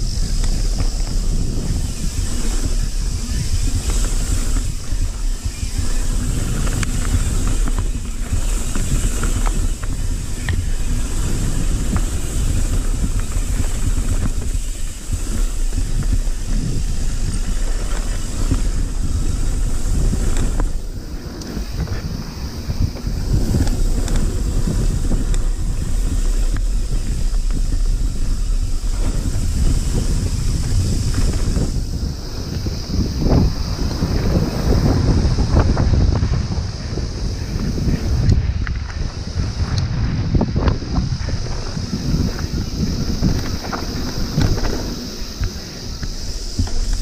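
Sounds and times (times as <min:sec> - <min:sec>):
bike rattles and clicks: 0:00.0 - 0:47.0
bike tyre rumble on dirt: 0:00.0 - 0:47.0
wind buffeting microphone: 0:00.0 - 0:47.0.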